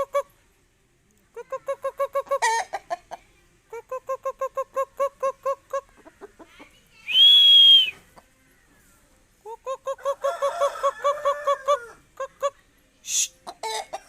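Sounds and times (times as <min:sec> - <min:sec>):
chickens clucking: 0:00.0 - 0:00.4, 0:01.3 - 0:06.9, 0:07.8 - 0:14.0.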